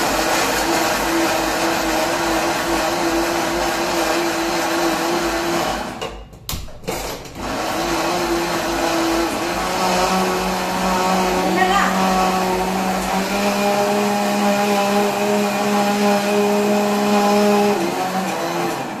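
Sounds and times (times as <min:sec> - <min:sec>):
mixer grinder running: 0:00.0 - 0:19.0.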